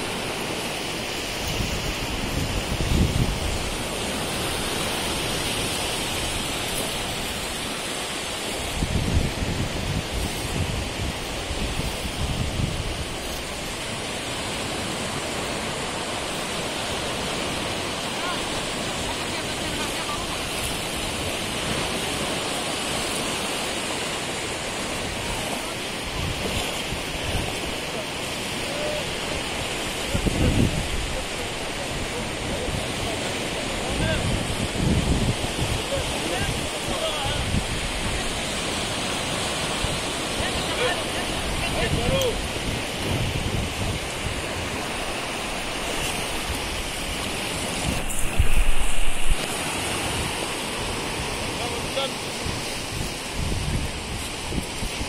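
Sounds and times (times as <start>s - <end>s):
sea surf breaking: 0.0s - 55.0s.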